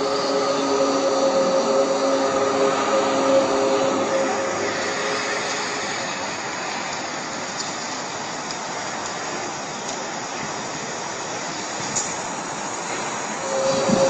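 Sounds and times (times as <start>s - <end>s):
steady rushing rumbling noise: 0.0s - 14.0s.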